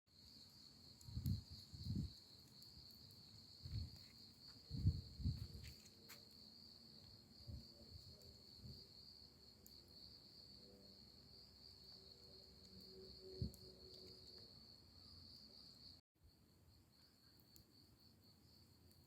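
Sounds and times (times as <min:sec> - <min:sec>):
crickets chirring: 0:00.2 - 0:19.0.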